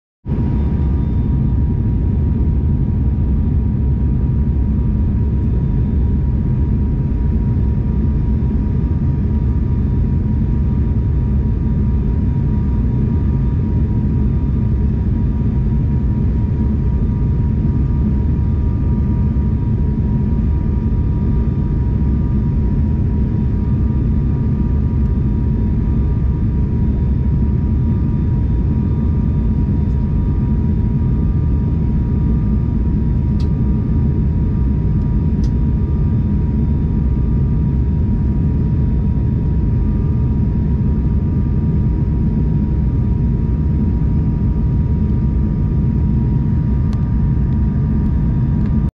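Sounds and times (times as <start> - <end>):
airliner engine and airflow drone: 0.2 - 48.9
constant high whine: 0.3 - 48.9.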